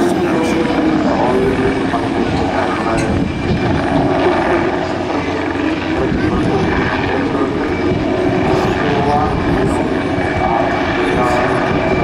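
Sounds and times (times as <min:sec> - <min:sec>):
helicopter rotor beating: 0:00.0 - 0:12.0
turbine engine running: 0:00.0 - 0:12.0.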